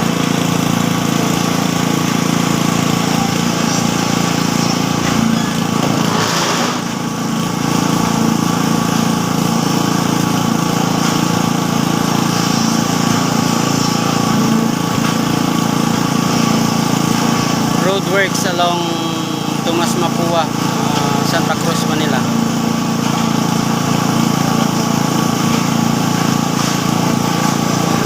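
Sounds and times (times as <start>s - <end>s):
small engine running steadily: 0.0s - 28.0s.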